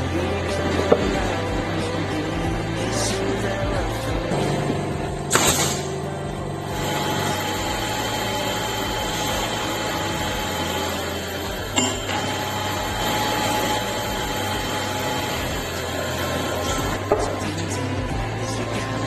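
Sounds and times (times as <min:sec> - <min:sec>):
power tool running: 0:00.0 - 0:19.0.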